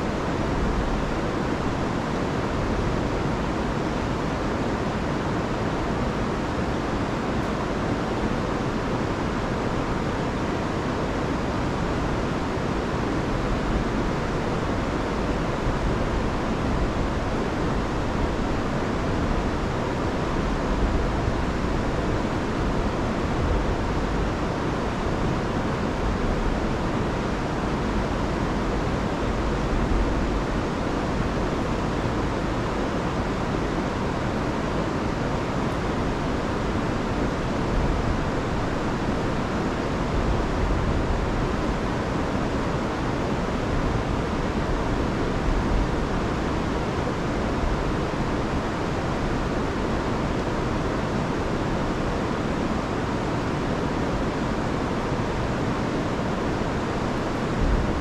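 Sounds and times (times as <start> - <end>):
river roaring: 0.0 - 58.0.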